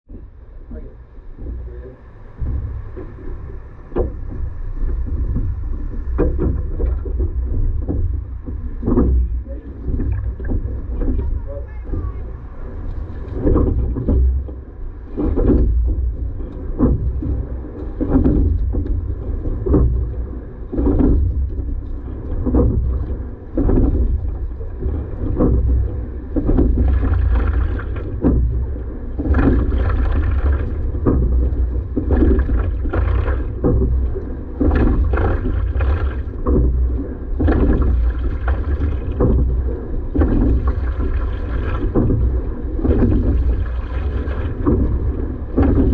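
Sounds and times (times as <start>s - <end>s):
wind rumble on microphone: 0.0s - 45.9s
oars swishing water: 0.1s - 45.9s.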